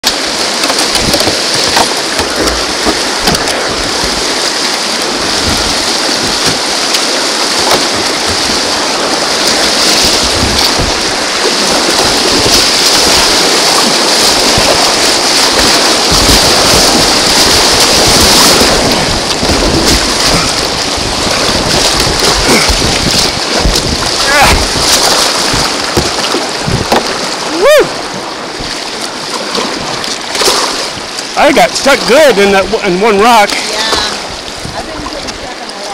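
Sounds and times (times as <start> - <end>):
whitewater rapids rushing: 0.0 - 35.9.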